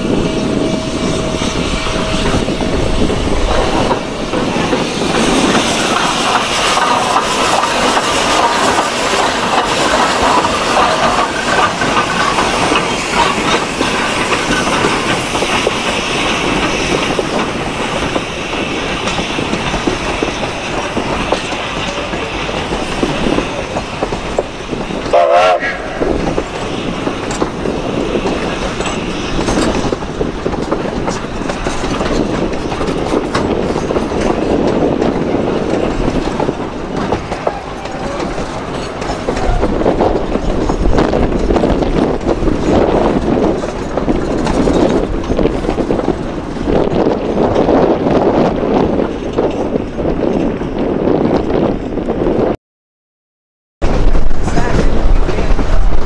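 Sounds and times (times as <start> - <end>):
train cars clattering on rails: 0.0 - 52.6, 53.8 - 56.0.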